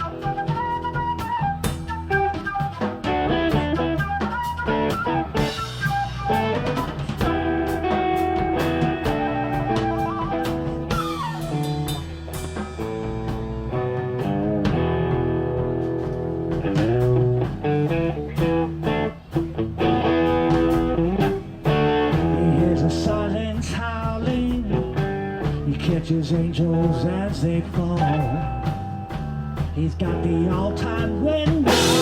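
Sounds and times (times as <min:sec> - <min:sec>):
guitar with bent notes: 0:00.0 - 0:32.0
rock band playing: 0:00.0 - 0:32.0.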